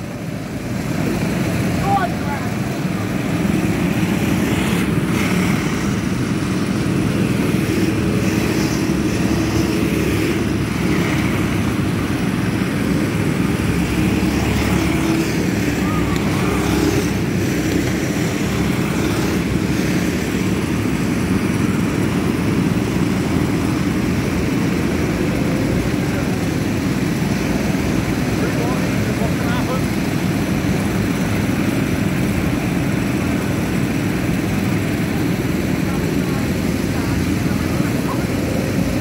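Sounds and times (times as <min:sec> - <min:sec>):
go-kart engines droning: 0:00.0 - 0:39.0.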